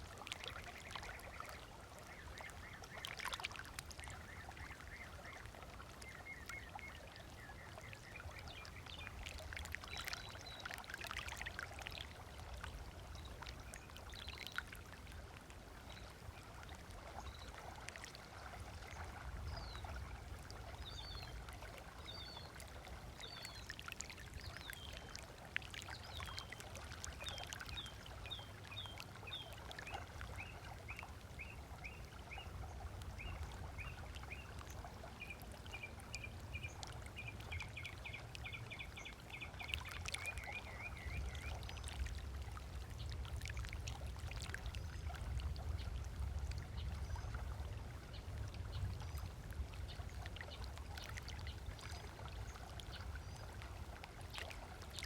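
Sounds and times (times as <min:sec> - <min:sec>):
small waves lapping on sand: 0:00.0 - 0:55.0.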